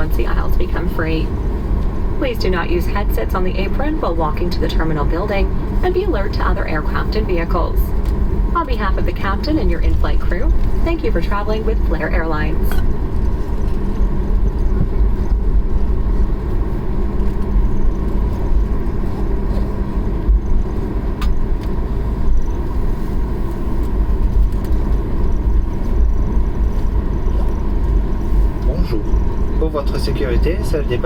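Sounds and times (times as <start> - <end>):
faint steady hum: 0.0 - 31.0
jet engines rumbling: 0.0 - 31.0.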